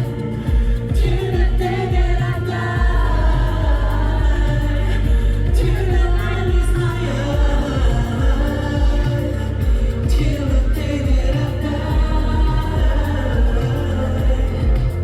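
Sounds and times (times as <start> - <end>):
backing track with pulsing bass: 0.0 - 15.0
man singing: 0.0 - 15.0.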